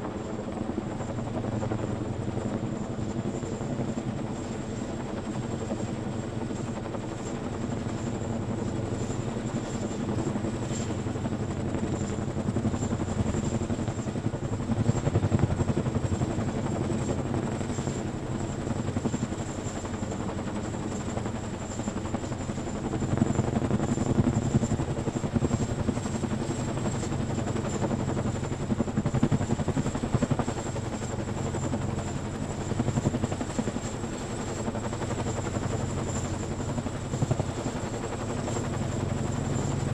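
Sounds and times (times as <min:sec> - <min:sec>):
helicopter engine whine: 0:00.0 - 0:39.9.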